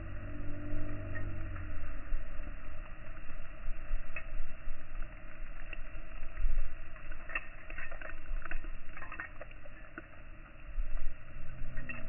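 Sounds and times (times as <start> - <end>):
snow crunching and crackling: 0.0 - 12.0
wind rumbling on microphone: 0.0 - 12.0.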